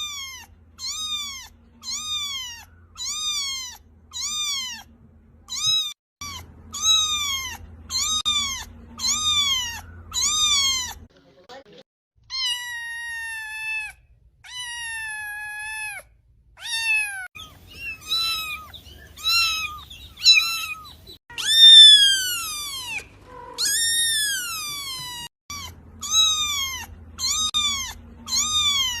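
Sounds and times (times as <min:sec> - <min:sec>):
kitten meowing: 0:00.0 - 0:04.9, 0:05.5 - 0:11.0, 0:12.3 - 0:16.0, 0:16.6 - 0:29.0.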